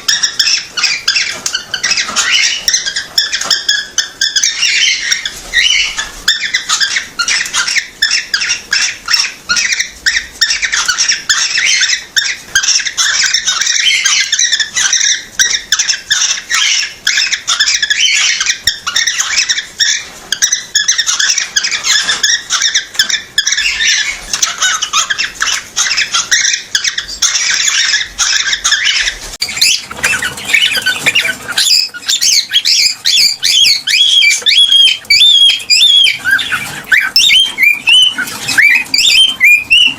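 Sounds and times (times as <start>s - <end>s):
cockatiel chirping: 0.0s - 39.9s.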